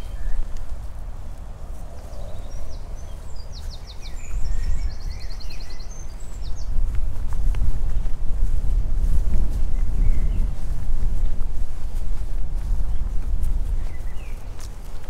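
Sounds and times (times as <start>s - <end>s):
songbirds singing: 0.0s - 7.6s, 8.7s - 11.8s, 12.6s - 15.0s
wind on microphone: 0.0s - 15.0s.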